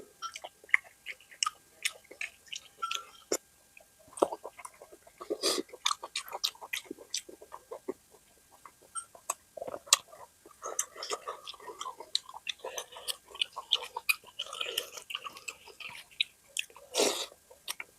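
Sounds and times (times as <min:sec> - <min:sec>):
chewing and mouth smacking: 0:00.2 - 0:17.9.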